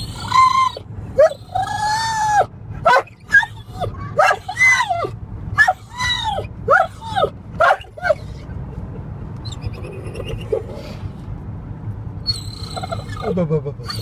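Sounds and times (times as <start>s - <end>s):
dog whining and squealing: 0.0s - 8.5s, 9.4s - 10.7s, 12.2s - 14.0s
car rumbling: 0.0s - 14.0s.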